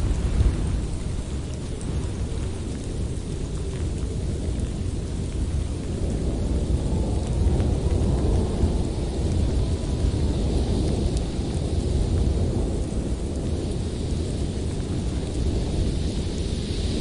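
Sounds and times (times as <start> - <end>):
blizzard wind rumbling: 0.0 - 17.0
hiss of wind-driven snow: 0.0 - 17.0.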